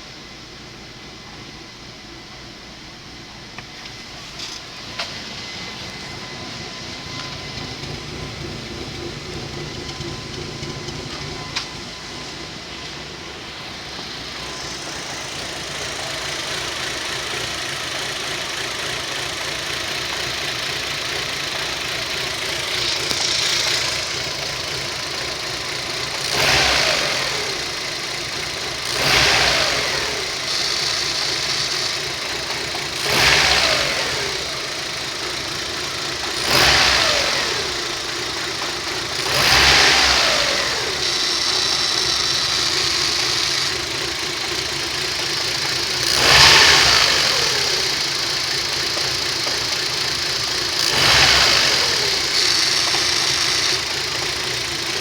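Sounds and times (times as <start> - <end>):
car engine idling rough: 0.0 - 55.0.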